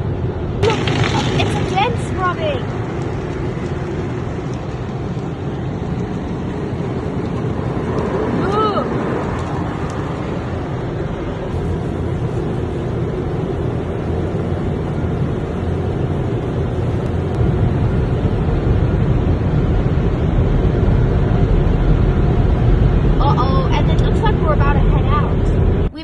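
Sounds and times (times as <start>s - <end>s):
car wash equipment rushing: 0.3s - 26.0s.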